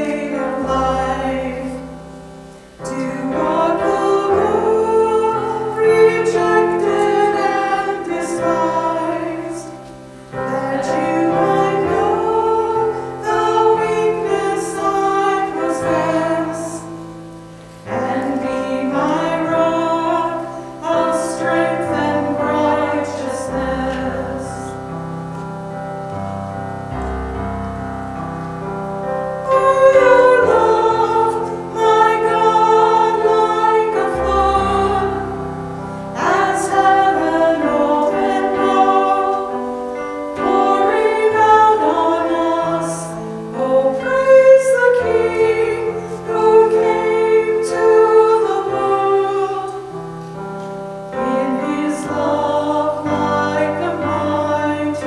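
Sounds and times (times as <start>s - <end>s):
women singing worship song: 0.0s - 25.1s, 29.4s - 55.0s.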